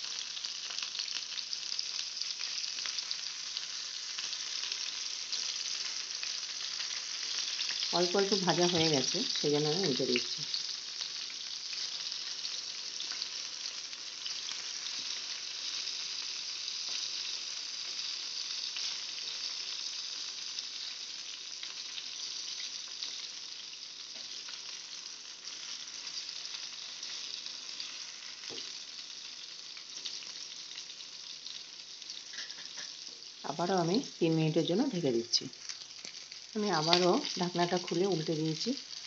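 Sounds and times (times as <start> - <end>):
eggplant sizzling in oil: 0.0 - 39.0.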